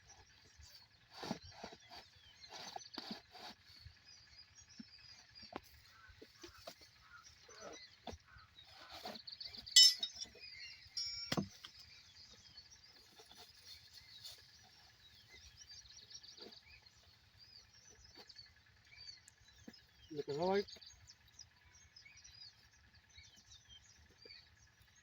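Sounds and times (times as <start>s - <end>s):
faint bird chirps: 0.0s - 25.0s.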